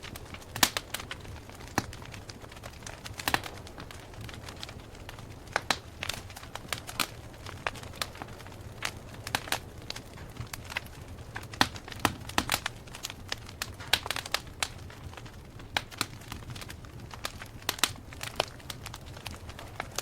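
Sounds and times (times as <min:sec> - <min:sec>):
rumble of flames: 0:00.0 - 0:20.0
wood crackling and popping: 0:00.0 - 0:20.0.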